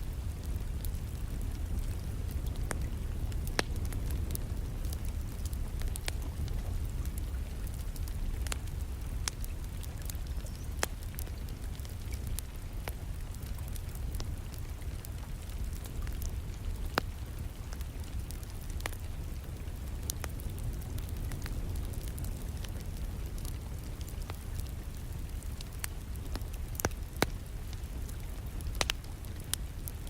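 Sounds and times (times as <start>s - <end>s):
rain: 0.0s - 30.0s
wood fire crackling: 0.0s - 30.0s.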